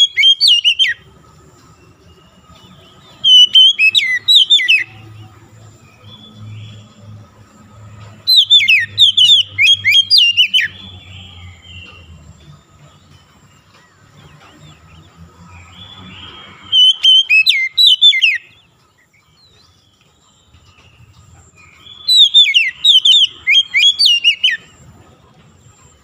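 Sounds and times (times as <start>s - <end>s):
bird singing whistled notes: 0.0s - 26.0s.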